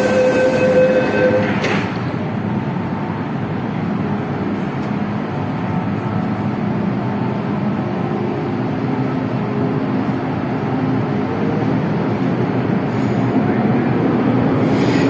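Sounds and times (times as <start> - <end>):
underground train rumbling: 0.0 - 15.0.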